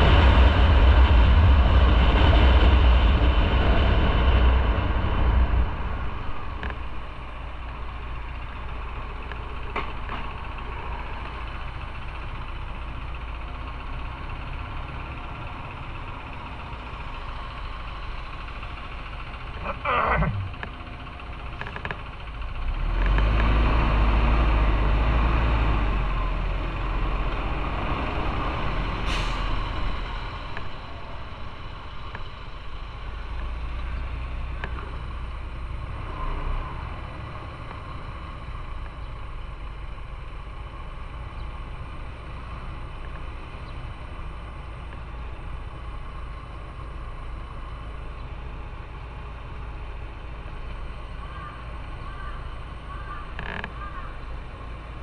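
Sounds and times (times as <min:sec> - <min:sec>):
motorcycle engine rumbling: 0:00.0 - 0:23.1, 0:29.9 - 0:55.0.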